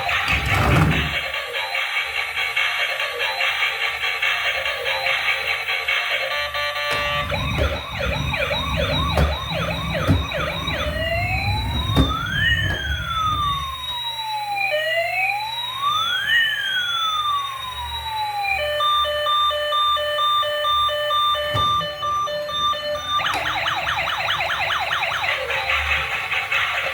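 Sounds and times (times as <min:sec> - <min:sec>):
toy siren yelping and wailing: 0:00.9 - 0:26.9.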